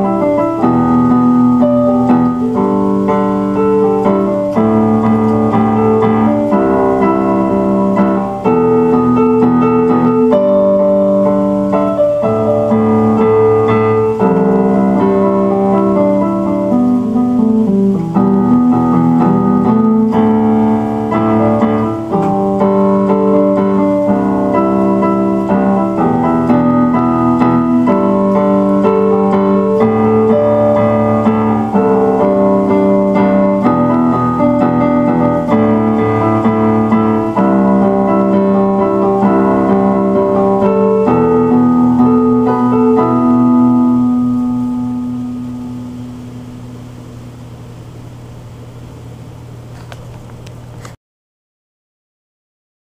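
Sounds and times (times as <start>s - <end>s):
piano chords: 0.0s - 49.7s.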